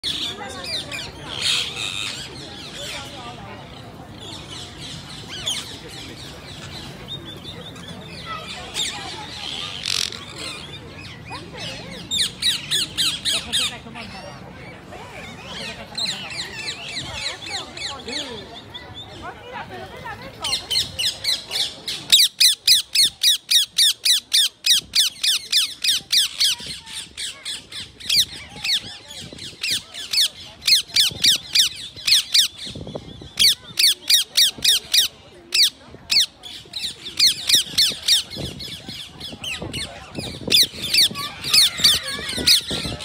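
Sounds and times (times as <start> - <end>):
parakeets screeching: 0.0 - 18.8, 20.4 - 43.0.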